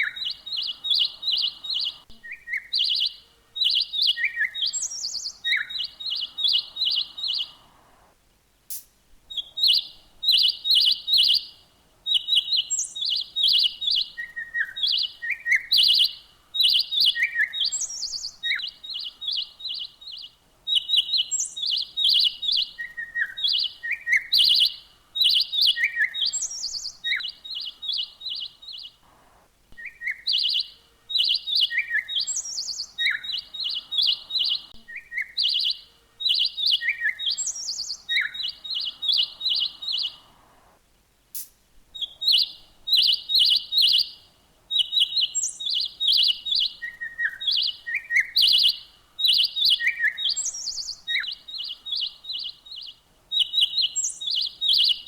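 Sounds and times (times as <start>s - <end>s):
songbird chirping: 0.0s - 55.0s.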